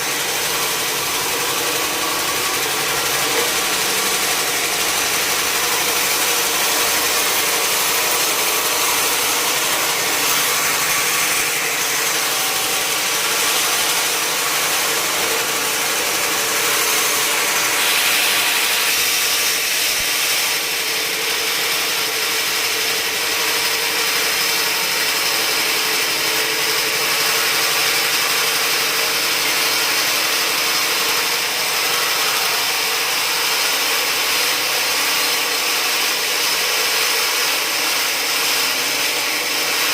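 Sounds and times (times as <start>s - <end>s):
machine motor drone: 0.0s - 39.9s
saw cutting through log: 0.0s - 39.9s.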